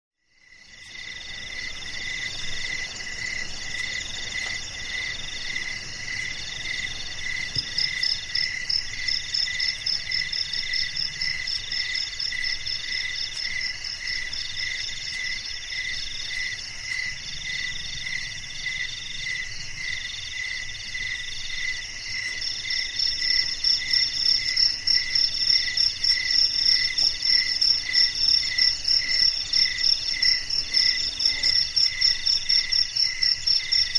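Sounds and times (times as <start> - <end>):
cricket trills: 0.2 - 33.9
rapid high insect chirps: 0.3 - 33.9.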